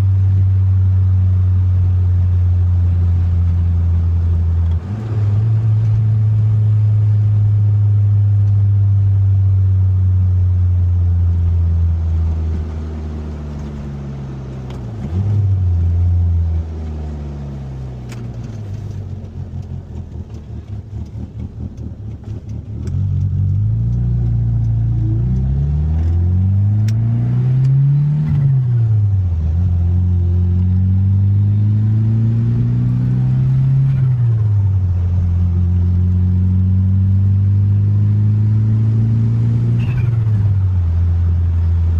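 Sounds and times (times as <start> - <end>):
car engine: 0.0 - 41.9.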